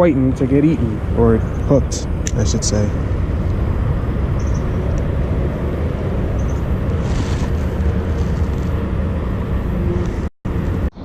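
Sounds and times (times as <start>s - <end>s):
wind buffeting microphone: 0.6s - 10.8s.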